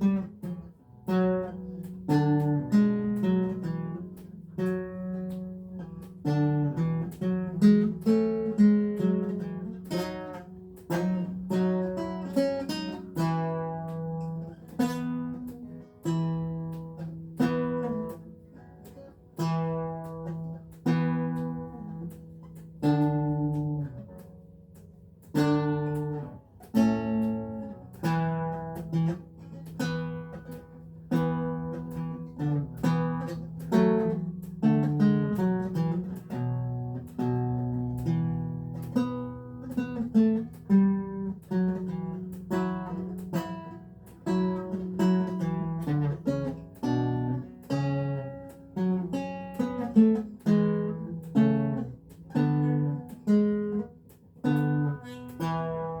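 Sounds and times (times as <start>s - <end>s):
solo lute playing: 0.0s - 56.0s.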